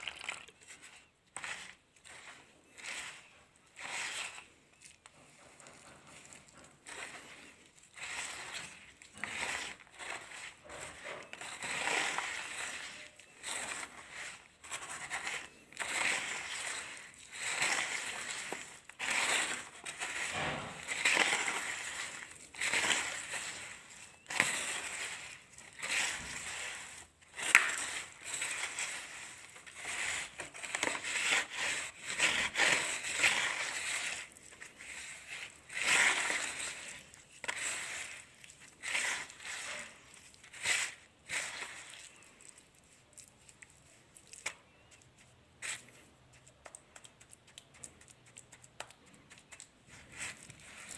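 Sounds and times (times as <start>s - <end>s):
sand crunching: 0.0s - 43.6s.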